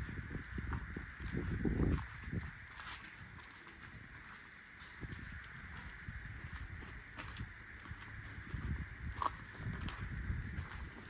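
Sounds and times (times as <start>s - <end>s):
footsteps of people walking: 0.0s - 11.0s
wind buffeting microphone: 0.0s - 11.0s.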